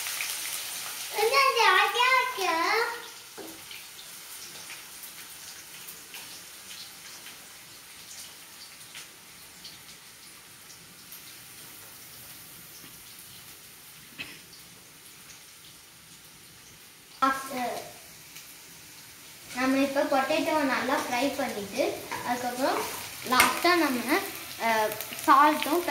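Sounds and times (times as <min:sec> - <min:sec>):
fries sizzling in oil: 0:00.0 - 0:25.9.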